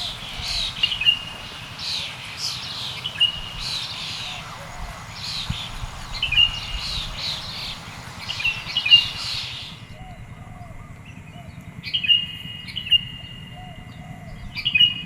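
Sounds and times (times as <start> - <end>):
low background rumble: 0.0 - 15.0
songbirds chirping: 0.0 - 15.0.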